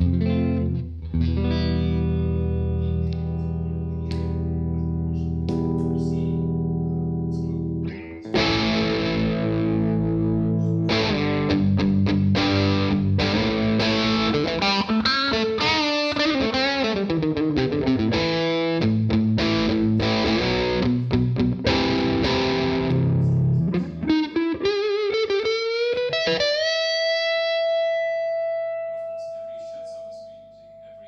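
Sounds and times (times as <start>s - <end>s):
distorted electric guitar: 0.0s - 30.4s.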